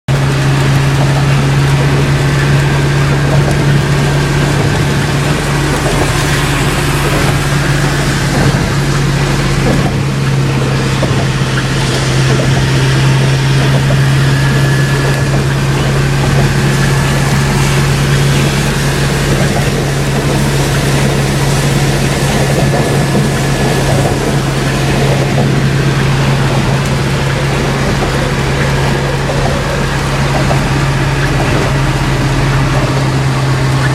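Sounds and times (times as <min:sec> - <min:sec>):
truck engine droning: 0:00.0 - 0:33.9
road noise hiss: 0:00.1 - 0:33.9.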